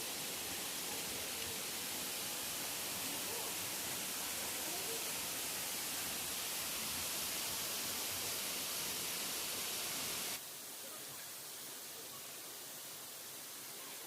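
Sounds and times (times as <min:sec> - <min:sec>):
falling water rushing: 0:00.0 - 0:14.0.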